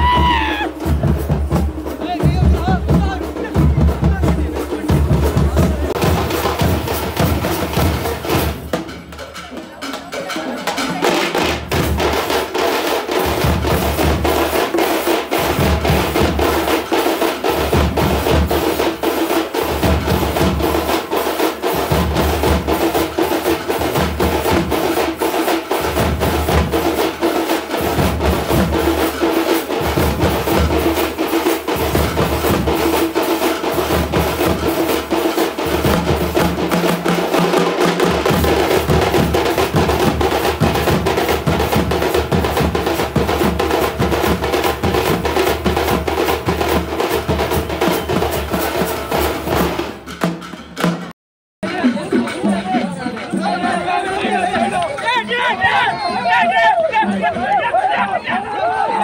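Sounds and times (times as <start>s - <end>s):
large drums beaten fast: 0.0s - 59.0s.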